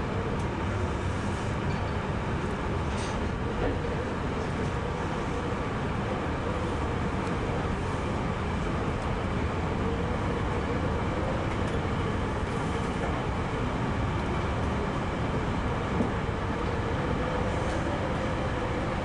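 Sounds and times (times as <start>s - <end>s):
train wheels rumbling on rails: 0.1s - 19.0s.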